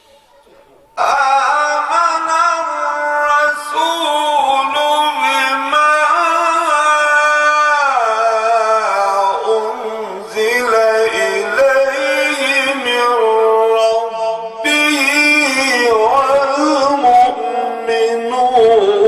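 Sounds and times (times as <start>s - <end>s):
man chanting melodic recitation: 0.0s - 19.0s.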